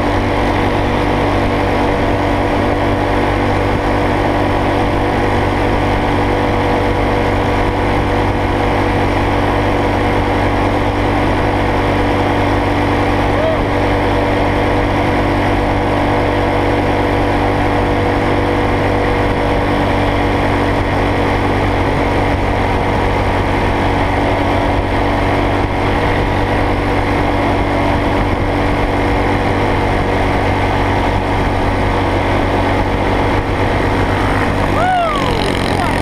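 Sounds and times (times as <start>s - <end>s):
go-kart engine running: 0.0s - 36.0s.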